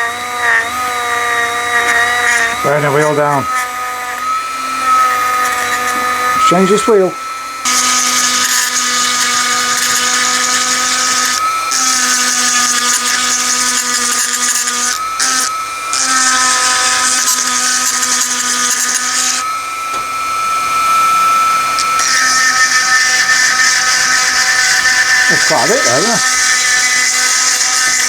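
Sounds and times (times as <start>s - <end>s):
rotary tool grinding steel: 0.0s - 20.0s, 20.7s - 28.0s.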